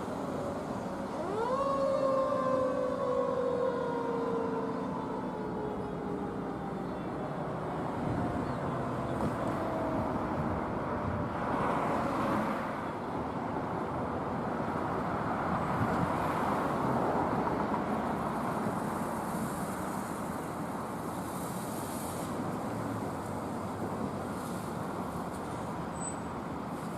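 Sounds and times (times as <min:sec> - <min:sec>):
cars passing on a street: 0:00.0 - 0:26.9.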